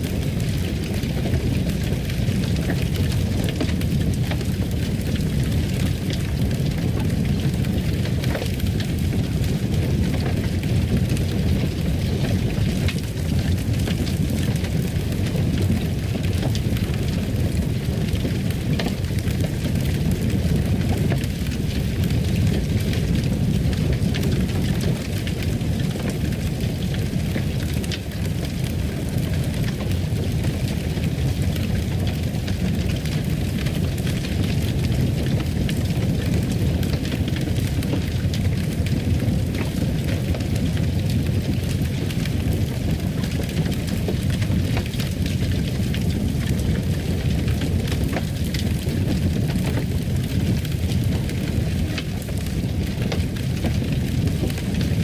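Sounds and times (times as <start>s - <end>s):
fire crackling and popping: 0.0s - 55.0s
fireplace fire burning: 0.0s - 55.0s.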